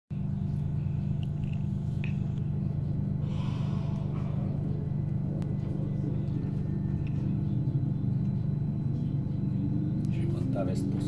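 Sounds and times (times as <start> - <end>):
train drone inside carriage: 0.1 - 11.0.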